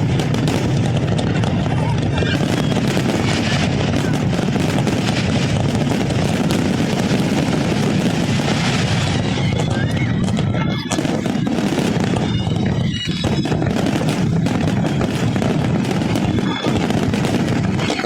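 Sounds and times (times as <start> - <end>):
fireworks crackling and banging: 0.0 - 18.0
fireworks whistles: 0.0 - 18.0
heavy rumble: 0.0 - 18.0.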